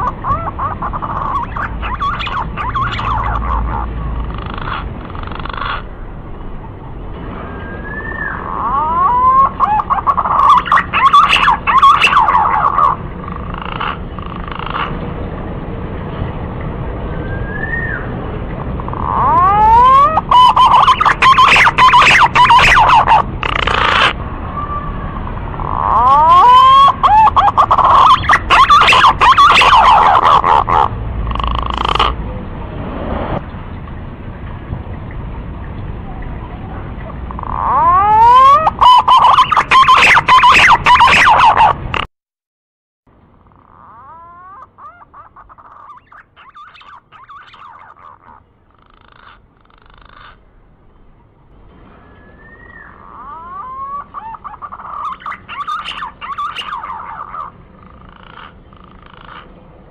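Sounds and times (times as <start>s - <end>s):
recorded pigeon call: 0.0s - 5.9s, 7.3s - 15.0s, 17.2s - 32.2s, 36.1s - 42.1s, 43.4s - 50.4s, 52.0s - 59.6s.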